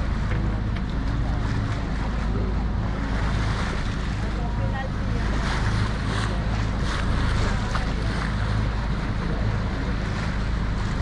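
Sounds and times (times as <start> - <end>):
boat rumble: 0.0 - 11.0
rushing water: 0.0 - 11.0.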